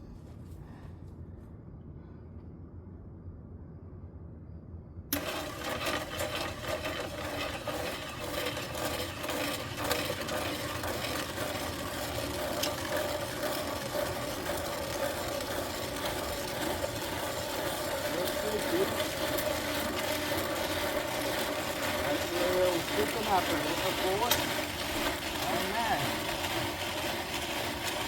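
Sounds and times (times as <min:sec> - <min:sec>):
concrete mixer humming: 0:05.1 - 0:28.0.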